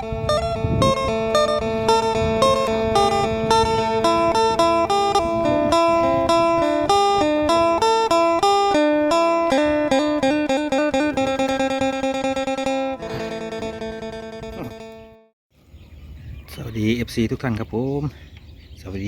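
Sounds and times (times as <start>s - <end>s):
plucked string melody: 0.0s - 15.3s.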